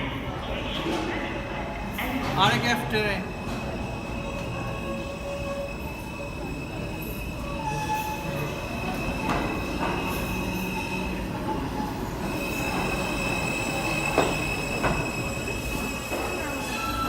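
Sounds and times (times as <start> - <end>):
subway wheels squealing on rails: 0.0 - 17.0.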